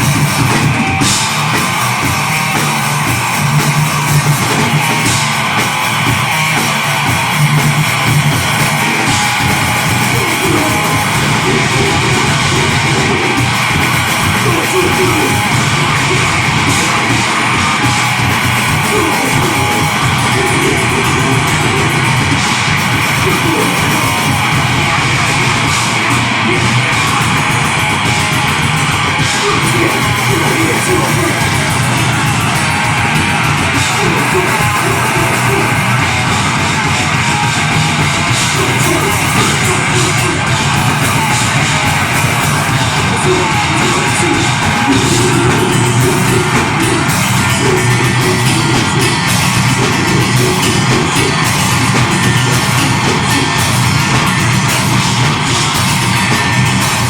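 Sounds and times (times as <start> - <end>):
bass guitar: 0.0 - 57.0
distorted guitars: 0.0 - 57.0
harsh yelled vocals: 0.0 - 57.0
very fast drumming: 0.0 - 57.0.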